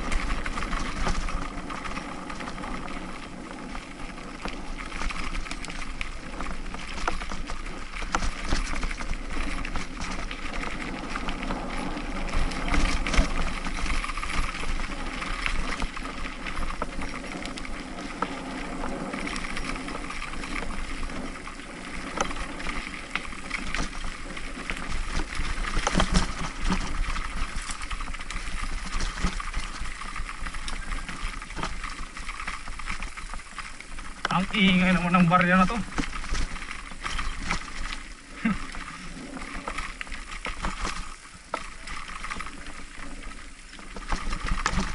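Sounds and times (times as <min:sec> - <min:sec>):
bike rattling: 0:00.0 - 0:44.9
tyres on dirt and gravel: 0:00.0 - 0:44.9.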